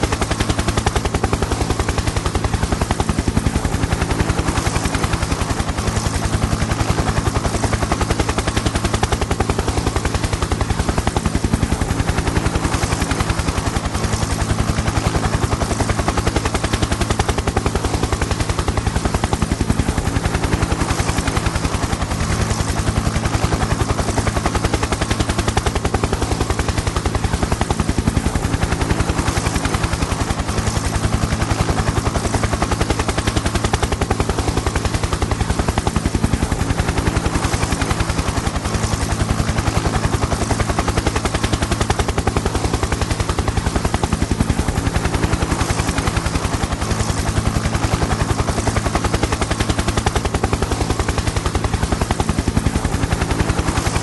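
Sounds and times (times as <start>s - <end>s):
helicopter engine drone: 0.0s - 54.0s
helicopter rotor blades chopping: 0.0s - 54.0s.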